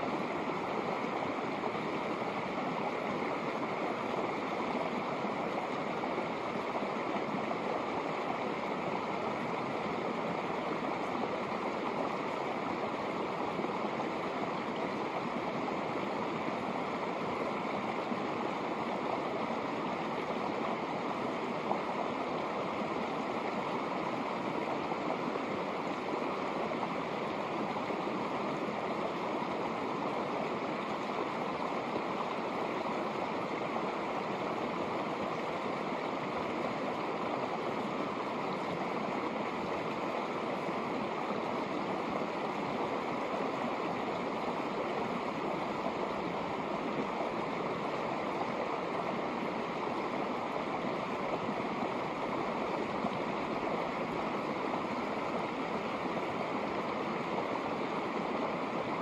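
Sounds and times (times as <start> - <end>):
creek flowing over rocks: 0.0 - 59.0.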